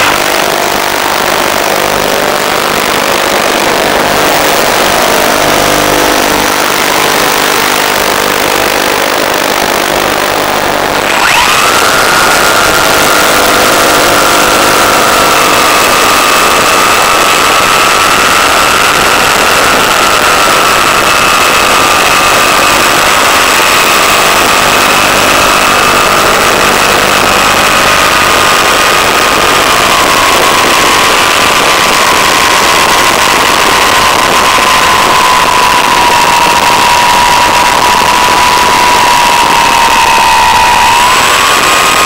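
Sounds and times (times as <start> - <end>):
motor and propeller whine: 0.0 - 42.0.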